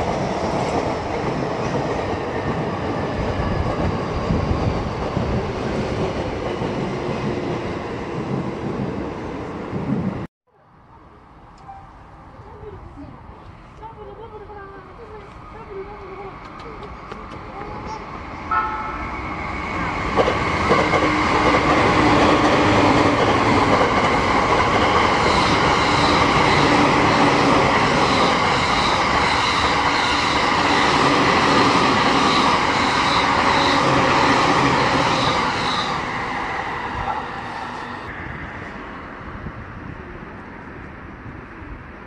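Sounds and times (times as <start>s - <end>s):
train wheels rumbling on rail: 0.0s - 10.3s, 14.2s - 42.0s.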